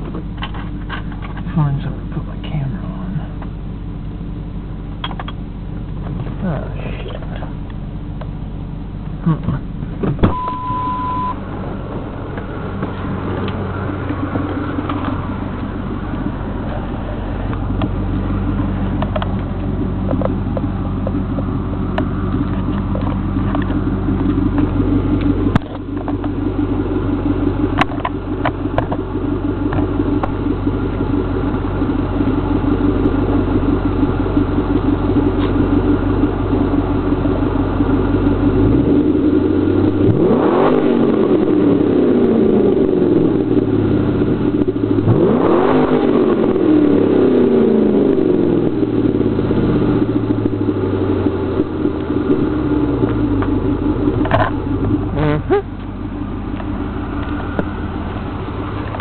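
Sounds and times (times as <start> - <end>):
car engine idling: 0.0 - 59.0
engine revving: 9.1 - 59.0.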